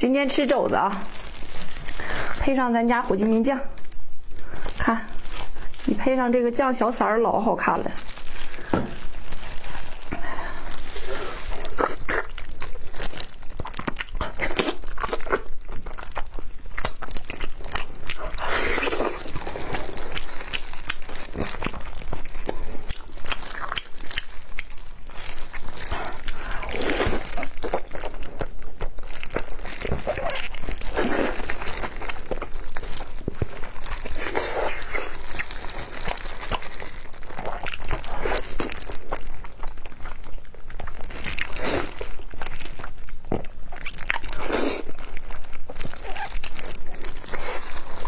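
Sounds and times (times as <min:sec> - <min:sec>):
chewing and biting meat: 0:08.0 - 0:48.0.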